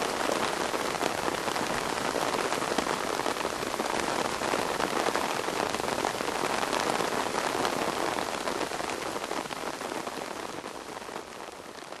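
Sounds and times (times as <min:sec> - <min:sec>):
rain falling on pond: 0:00.0 - 0:12.0.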